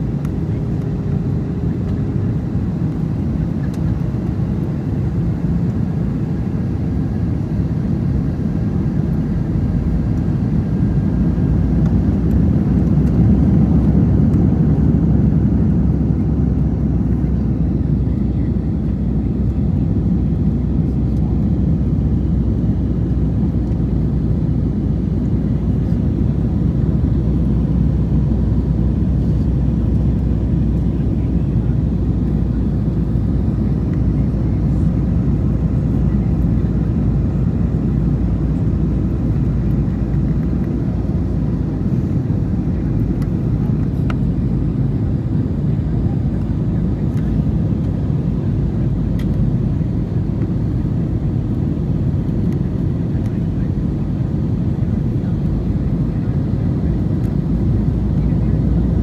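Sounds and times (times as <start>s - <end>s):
airliner cabin roar: 0.0s - 59.0s.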